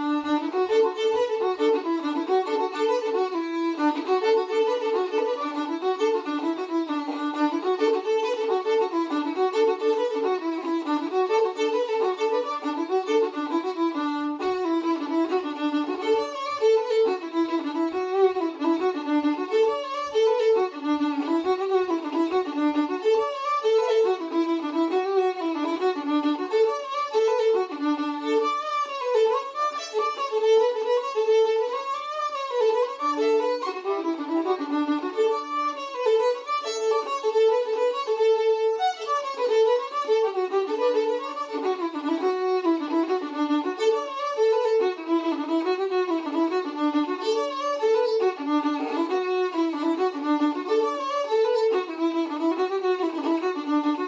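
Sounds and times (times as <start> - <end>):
solo fiddle playing a jig: 0.0 - 54.0.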